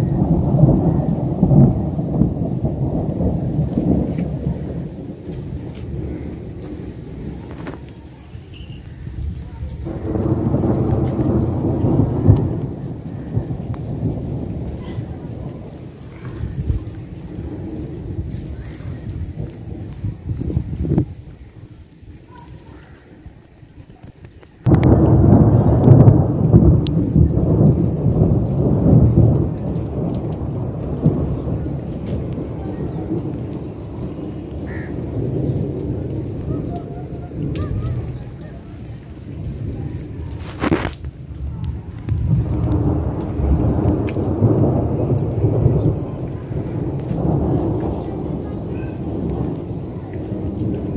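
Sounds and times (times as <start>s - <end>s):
rain falling: 0.0s - 50.9s
thunder rumbling: 0.0s - 50.9s.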